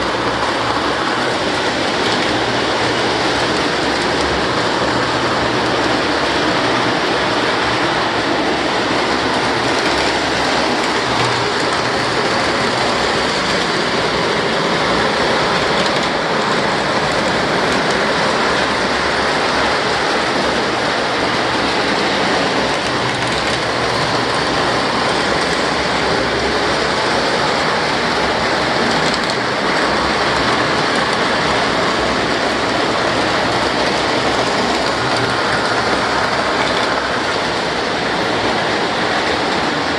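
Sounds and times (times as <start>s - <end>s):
model trains rattling on track: 0.0s - 39.9s.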